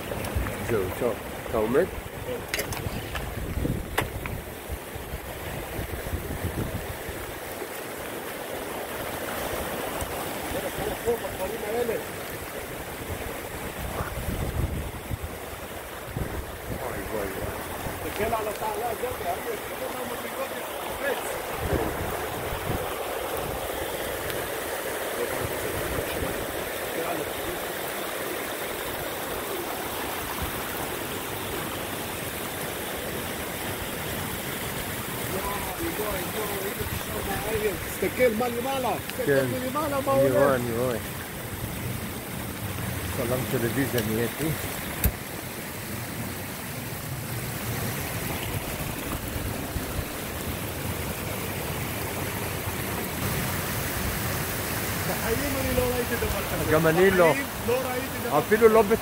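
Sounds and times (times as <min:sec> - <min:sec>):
floodwater rushing down stone steps: 0:00.0 - 0:59.0.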